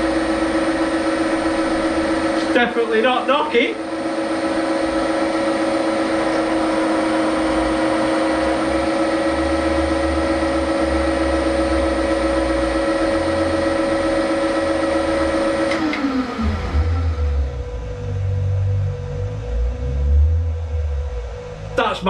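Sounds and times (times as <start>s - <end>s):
milling machine motor whirring: 0.0s - 22.0s.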